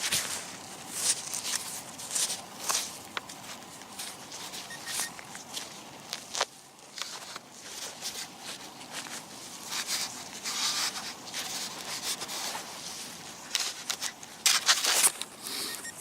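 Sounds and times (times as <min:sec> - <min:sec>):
soil being dug and scraped: 0:00.0 - 0:16.0.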